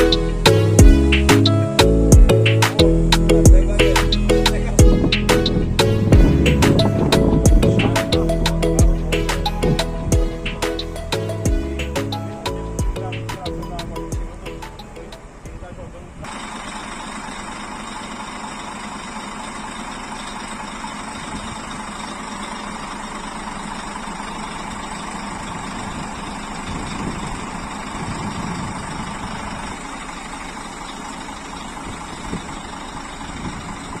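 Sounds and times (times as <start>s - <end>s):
bus engine running: 0.0s - 34.0s.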